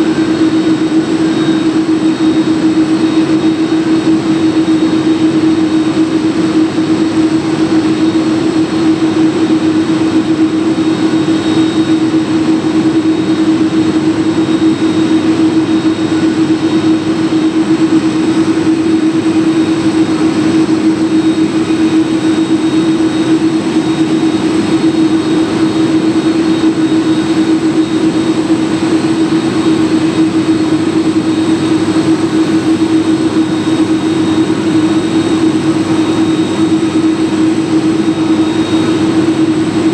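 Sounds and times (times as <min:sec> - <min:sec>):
high whine: 0:00.0 - 0:39.9
jet engines running: 0:00.0 - 0:39.9.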